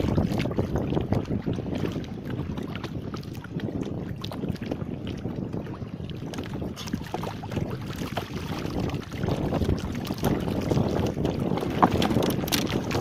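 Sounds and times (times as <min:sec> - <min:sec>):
water splashing against canoe: 0:00.0 - 0:13.0
wind buffeting microphone: 0:00.0 - 0:13.0.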